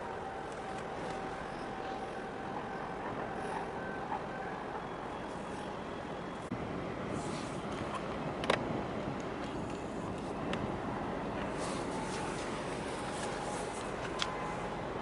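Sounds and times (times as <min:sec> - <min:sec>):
distant engines and traffic rumble: 0:00.0 - 0:15.0
faint steady whine: 0:00.0 - 0:15.0.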